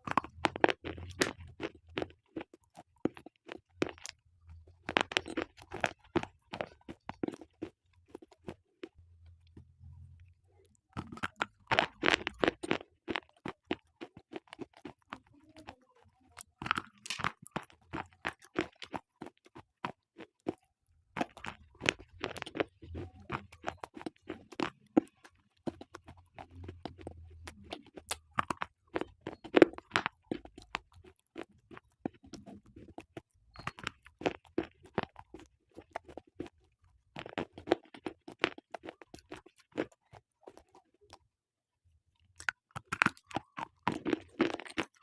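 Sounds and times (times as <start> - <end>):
slate pencils crunching when chewed: 0.0 - 9.6, 10.2 - 41.2, 42.1 - 45.0.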